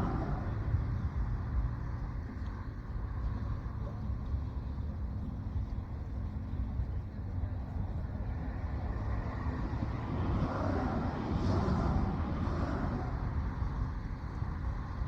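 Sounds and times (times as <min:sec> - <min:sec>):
passing vehicle rumble: 0:00.0 - 0:04.7, 0:06.3 - 0:15.0.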